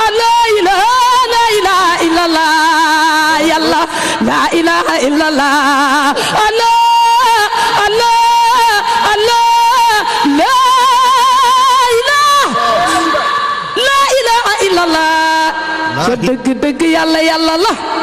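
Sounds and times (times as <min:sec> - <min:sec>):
woman singing devotional chant: 0:00.0 - 0:18.0.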